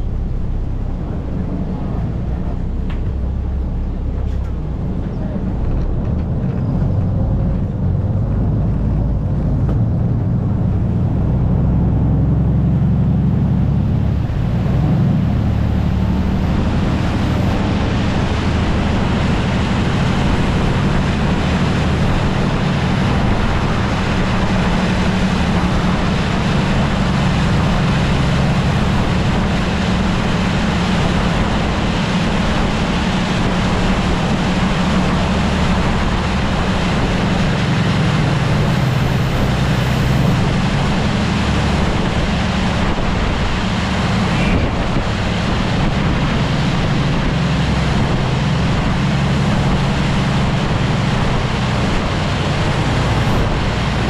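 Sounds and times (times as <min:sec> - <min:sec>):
boat diesel engine drone: 0:00.0 - 0:54.0
rush of water and wind: 0:00.0 - 0:54.0.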